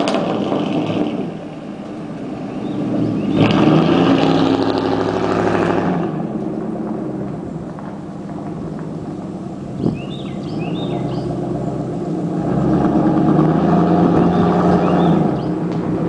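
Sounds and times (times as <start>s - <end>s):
loud exhaust of engine running: 0.0s - 16.0s.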